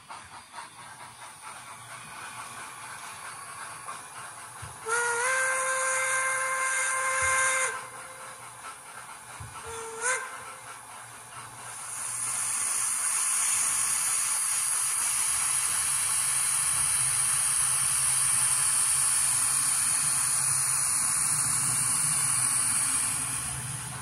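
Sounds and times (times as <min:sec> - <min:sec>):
hiss of escaping steam: 0:00.0 - 0:24.0.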